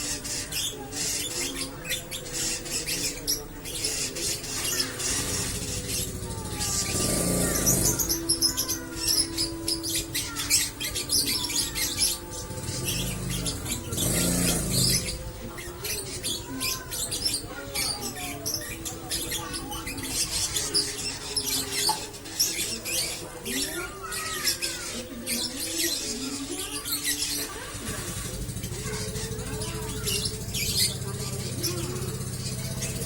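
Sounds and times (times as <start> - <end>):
lovebird chattering: 0.0 - 33.0.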